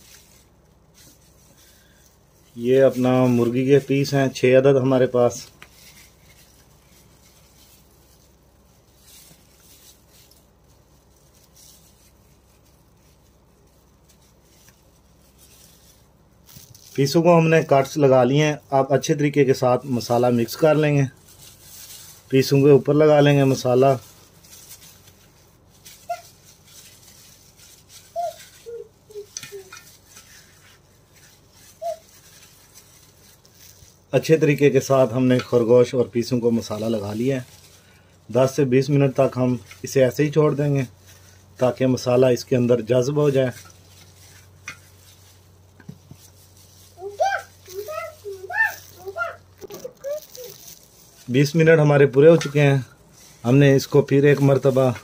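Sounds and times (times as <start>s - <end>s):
gloved hands rustling: 0.0s - 55.0s.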